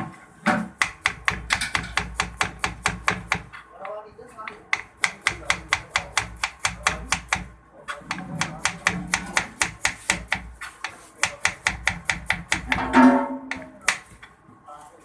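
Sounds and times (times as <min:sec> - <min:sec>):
knife chopping food: 0:00.5 - 0:14.3.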